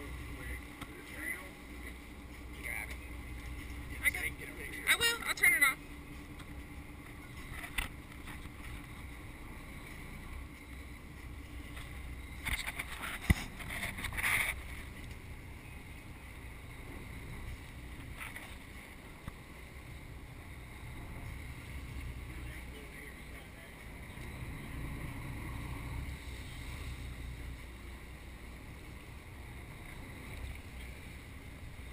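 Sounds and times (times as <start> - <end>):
boat engine rumbling: 0.0 - 31.9
water and wind noise: 0.0 - 31.9.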